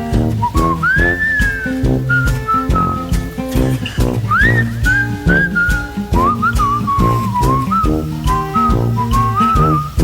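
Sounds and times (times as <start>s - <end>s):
guitar and bass with beat: 0.0s - 10.0s
whistled melody: 0.2s - 10.0s.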